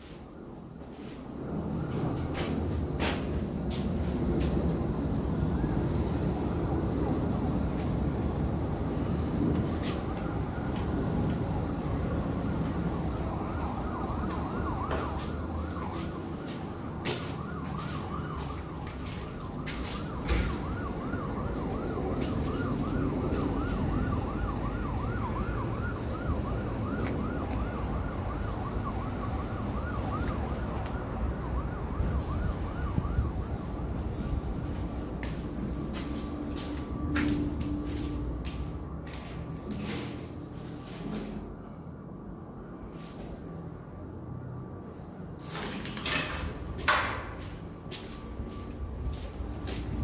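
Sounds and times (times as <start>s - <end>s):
emergency vehicle siren wailing: 0.0s - 50.0s
low rumble of city traffic: 0.0s - 50.0s.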